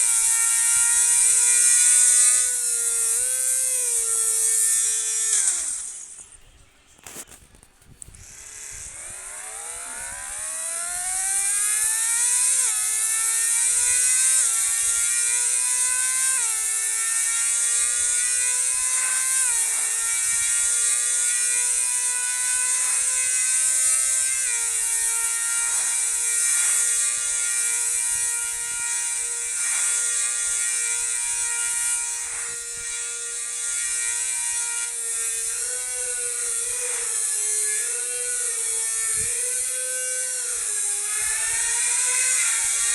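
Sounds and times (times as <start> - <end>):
small motor whining: 0.0 - 42.9.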